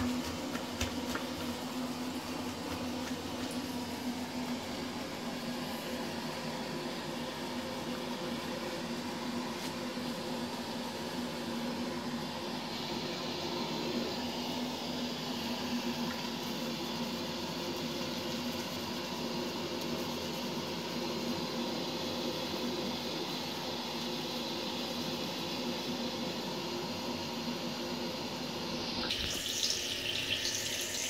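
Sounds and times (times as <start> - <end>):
extractor fan humming: 0.0 - 31.0.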